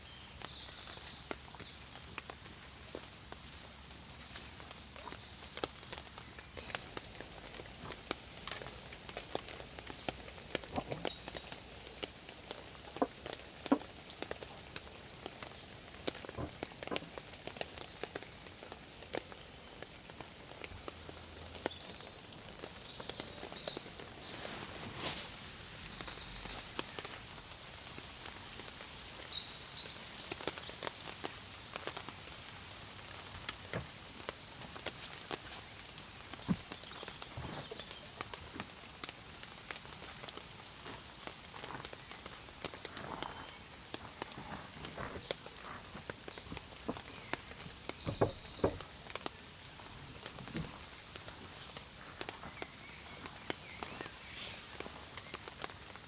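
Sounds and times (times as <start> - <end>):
faint steady rain hiss: 0.0 - 56.0
raindrops ticking on a surface: 0.0 - 56.0.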